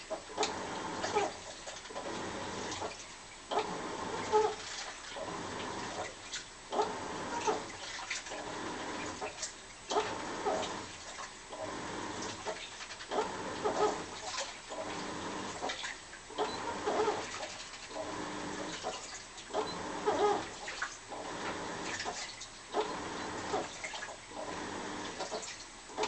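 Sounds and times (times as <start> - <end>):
washing machine water sloshing: 0.0 - 26.0.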